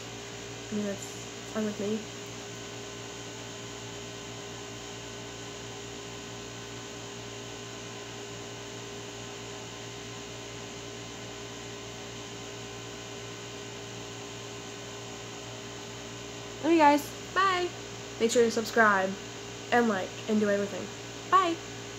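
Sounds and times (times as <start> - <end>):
steady hum: 0.0 - 21.9.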